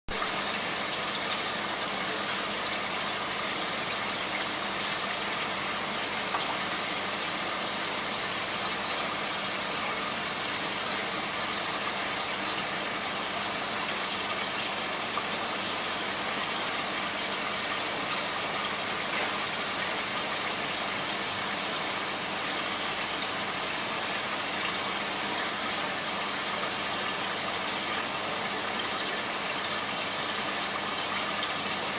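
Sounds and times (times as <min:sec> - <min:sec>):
low pump hum: 0:00.1 - 0:31.9
running water rushing: 0:00.1 - 0:31.9.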